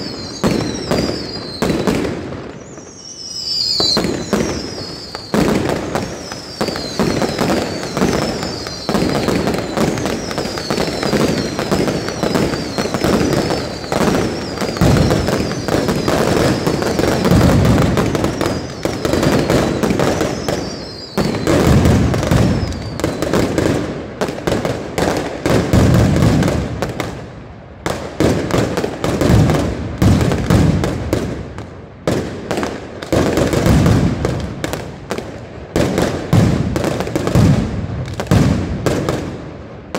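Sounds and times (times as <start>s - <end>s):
firecracker bangs: 0.0s - 27.2s, 27.9s - 39.5s
whistling fireworks: 0.0s - 39.9s.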